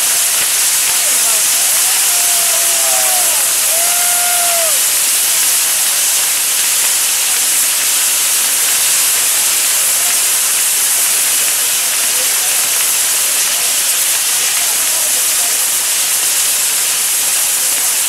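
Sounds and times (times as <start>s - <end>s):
firework fountains hissing: 0.0s - 18.0s.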